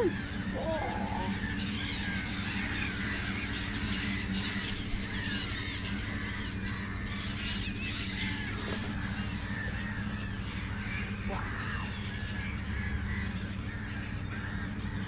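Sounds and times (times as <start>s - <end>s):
flock of birds calling: 0.0s - 15.0s
steady low hum: 0.0s - 15.0s.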